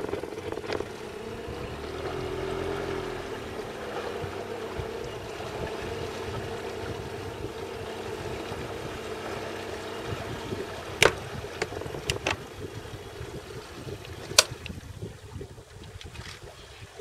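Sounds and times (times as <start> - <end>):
low hum: 0.0 - 16.8
water lapping against hull: 0.0 - 17.0.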